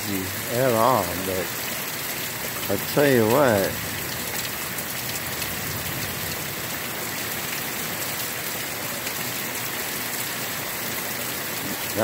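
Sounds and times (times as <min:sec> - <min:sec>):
heavy rain on hard surfaces: 0:00.0 - 0:12.0.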